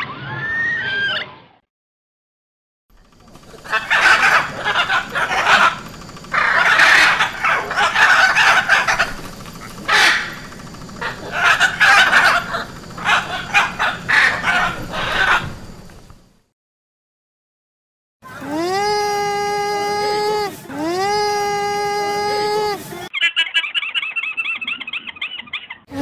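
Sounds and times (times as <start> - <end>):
macaw squawking: 3.0 - 16.2, 18.3 - 26.0.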